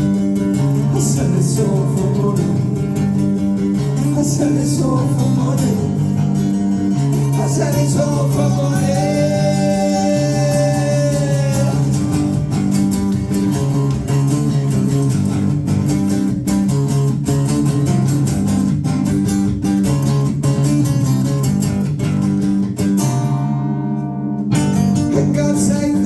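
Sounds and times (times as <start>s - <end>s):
live band playing: 0.0s - 22.6s
bass guitar: 0.0s - 26.0s
strummed guitars: 0.0s - 26.0s.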